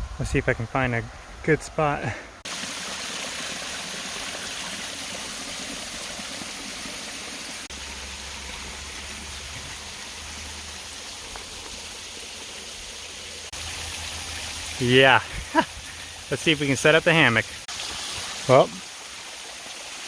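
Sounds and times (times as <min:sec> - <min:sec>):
waterfall rushing: 0:02.4 - 0:20.0.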